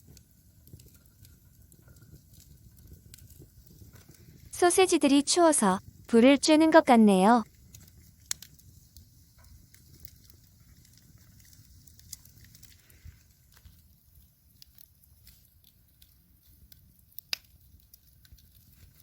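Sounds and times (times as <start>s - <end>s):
fire pops: 0.0s - 19.0s
wood fire crackling: 0.0s - 19.0s.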